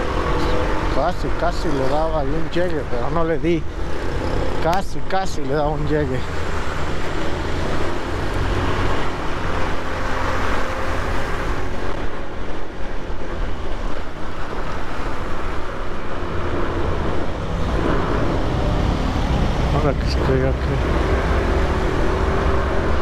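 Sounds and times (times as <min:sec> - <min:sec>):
motorcycle engine: 0:00.0 - 0:23.0
road noise: 0:00.0 - 0:23.0.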